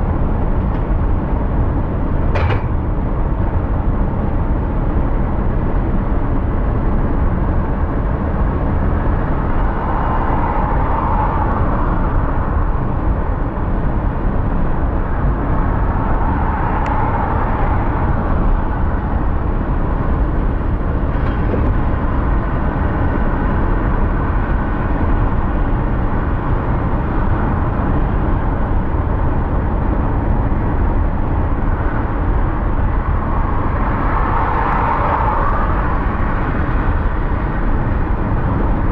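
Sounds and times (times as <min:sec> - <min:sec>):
car road noise rumble: 0:00.0 - 0:38.9.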